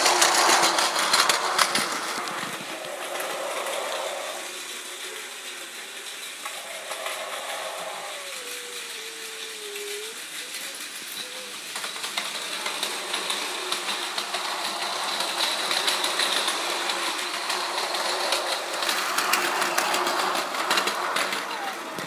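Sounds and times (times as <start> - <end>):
toy train motors whirring: 0.0 - 22.0
wheels clicking over track joins: 0.0 - 22.0.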